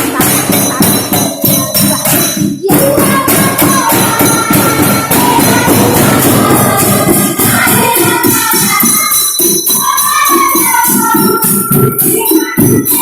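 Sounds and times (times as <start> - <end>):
children playing improvised percussion: 0.0 - 13.0.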